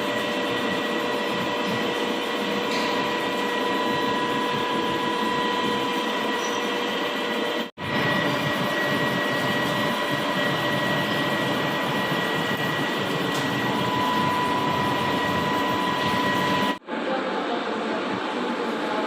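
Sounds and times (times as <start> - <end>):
lathe running with high whine: 0.0 - 16.8.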